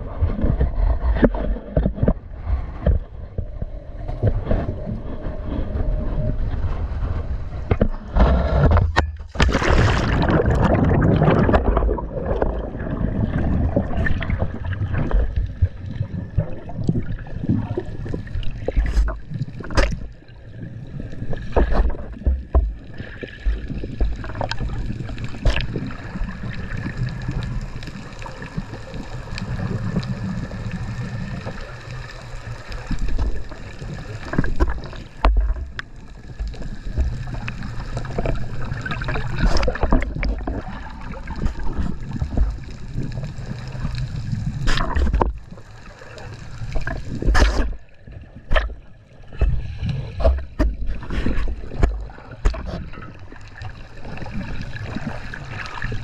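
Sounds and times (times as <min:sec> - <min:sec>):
underwater bubbling and gurgling: 0:00.0 - 0:56.0.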